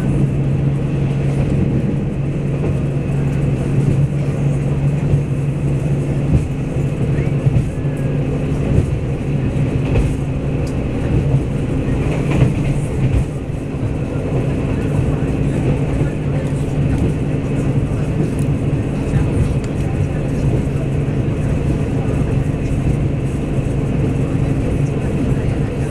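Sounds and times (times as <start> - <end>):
diesel engine drone: 0.0 - 25.9
wheels rumbling on rail: 0.0 - 25.9.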